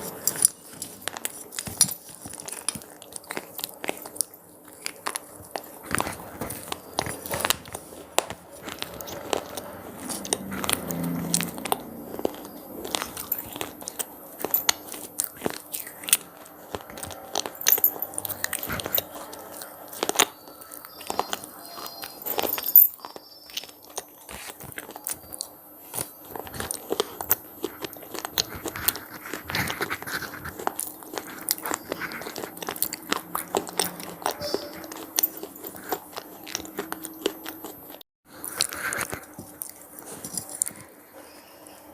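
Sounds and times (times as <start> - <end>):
crunching crispy snacks: 0.0 - 41.0.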